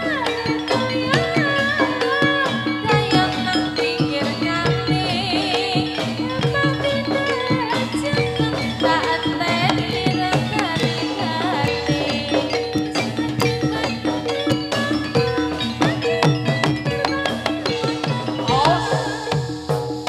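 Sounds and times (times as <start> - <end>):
hand drums steady rhythm: 0.0 - 20.0
struck metal keyed instruments: 0.0 - 20.0
wavering melody line: 0.0 - 20.0.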